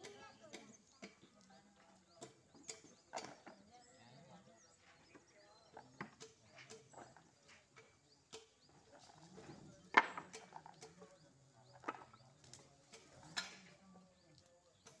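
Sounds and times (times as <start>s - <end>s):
knocks and clanks of construction: 0.0s - 3.7s, 4.8s - 13.9s
birds chirping faintly: 0.0s - 15.0s.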